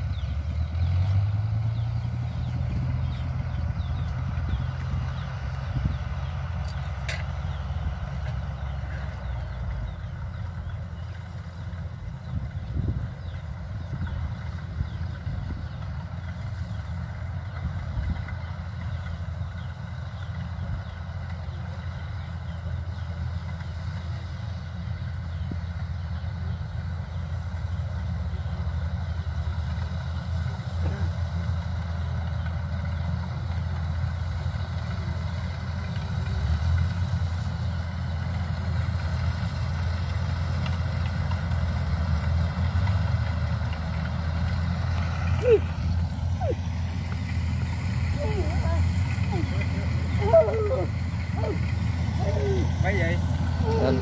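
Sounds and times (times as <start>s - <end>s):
distant diesel engine running: 0.0s - 54.0s.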